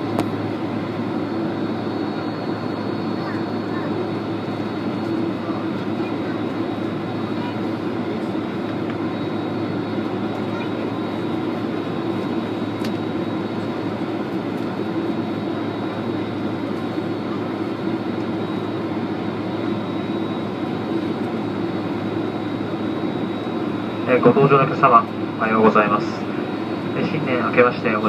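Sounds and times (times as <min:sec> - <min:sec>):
airliner engines at low power: 0:00.0 - 0:28.0
cabin air-conditioning hum: 0:00.0 - 0:28.0.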